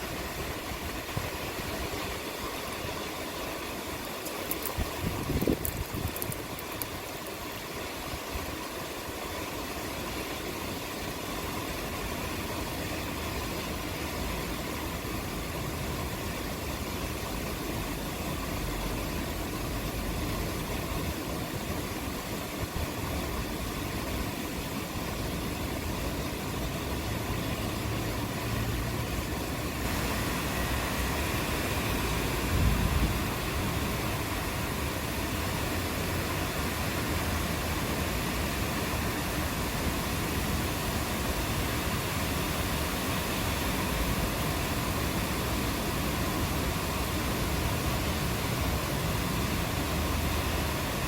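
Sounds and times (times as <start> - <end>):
steady rain falling: 0.0 - 10.5, 11.2 - 51.0.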